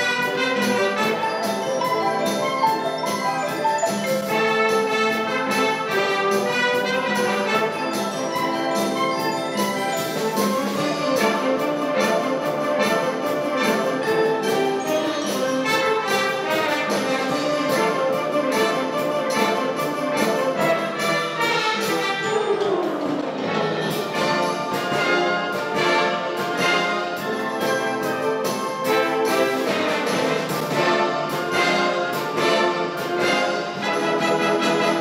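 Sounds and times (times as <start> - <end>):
concert wind band playing pop tunes: 0.0 - 35.0.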